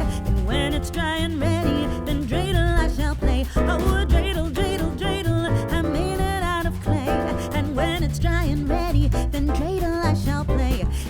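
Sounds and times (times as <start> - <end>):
song with sung vocals and bass: 0.0 - 11.0.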